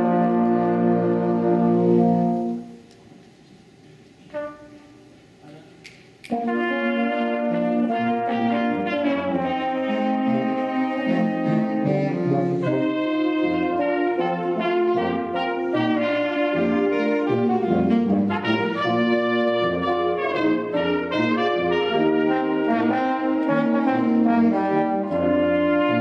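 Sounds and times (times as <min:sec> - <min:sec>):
brass ensemble playing chords: 0:00.0 - 0:02.8, 0:04.2 - 0:05.1, 0:06.3 - 0:26.0.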